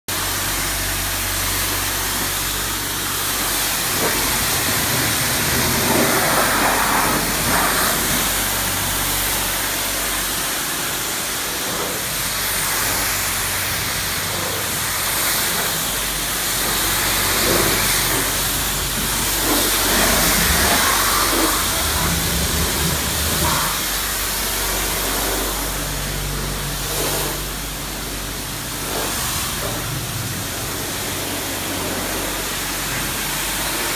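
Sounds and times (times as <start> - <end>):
pressure washer water jet hiss: 0.1 - 33.9.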